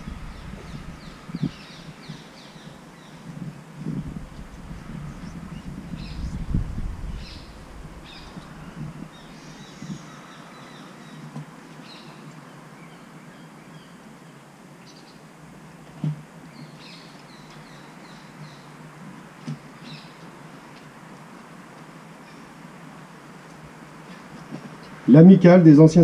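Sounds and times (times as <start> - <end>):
birds chirping: 0.0 - 15.4, 16.4 - 25.2.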